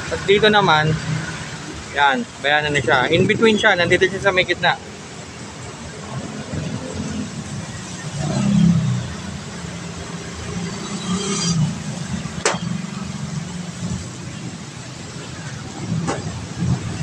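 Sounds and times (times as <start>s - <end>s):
passing vehicles rumbling: 0.0s - 17.0s.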